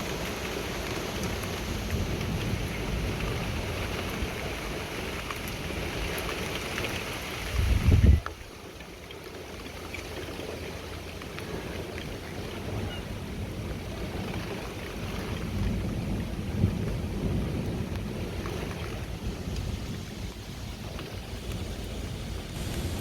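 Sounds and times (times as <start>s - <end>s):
low rumble of wind: 0.0s - 23.0s
rain hiss: 0.0s - 23.0s.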